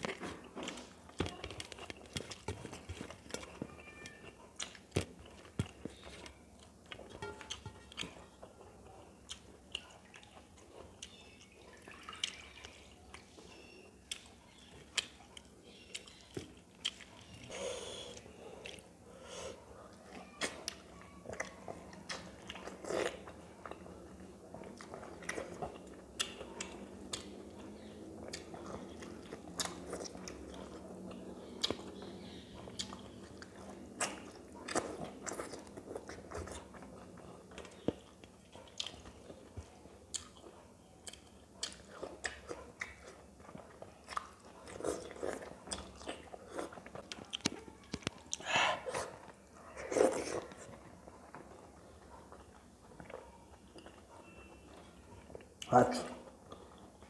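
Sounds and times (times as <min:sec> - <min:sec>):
person chewing wetly: 0:00.0 - 0:55.7, 0:56.3 - 0:57.0.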